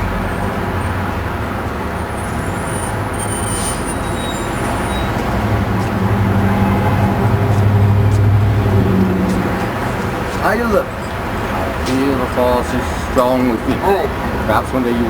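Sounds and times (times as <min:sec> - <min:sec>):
low engine hum: 0:00.0 - 0:15.0
road traffic rumble: 0:00.0 - 0:15.0.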